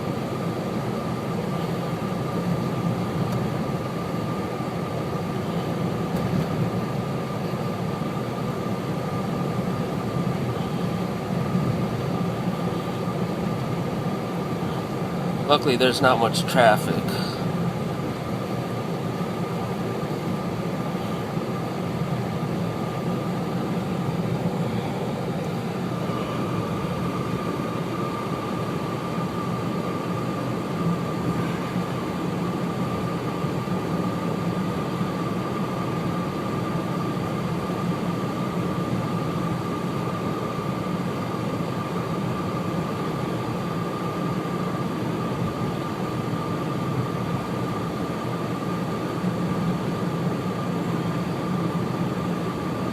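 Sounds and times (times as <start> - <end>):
car road and engine noise: 0.0 - 52.9
thin steady whine: 0.0 - 52.9.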